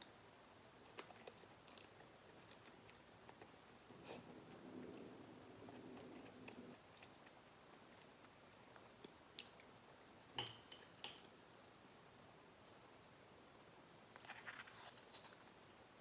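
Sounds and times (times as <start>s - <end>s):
faint chewing of food: 0.7s - 12.4s, 14.1s - 16.0s.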